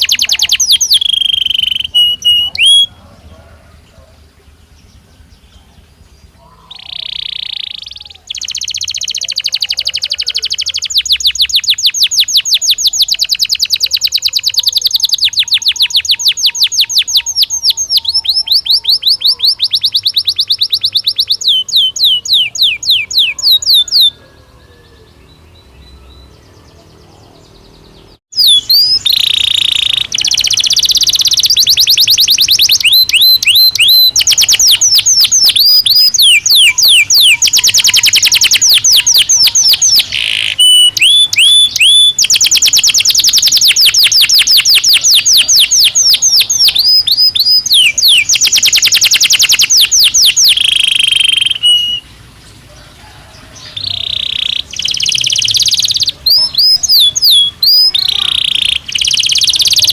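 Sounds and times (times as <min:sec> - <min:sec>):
canary singing fast trills: 0:00.0 - 0:59.9.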